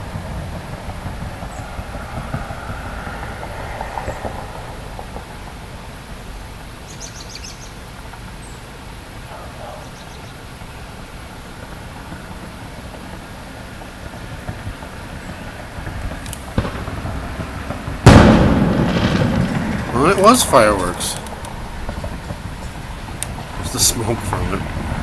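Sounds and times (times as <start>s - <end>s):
distant traffic rumble: 0.0s - 25.0s.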